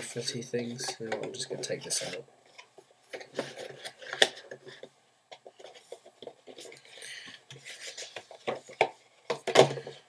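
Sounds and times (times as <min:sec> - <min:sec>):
card and paper rustling: 0:01.6 - 0:09.9.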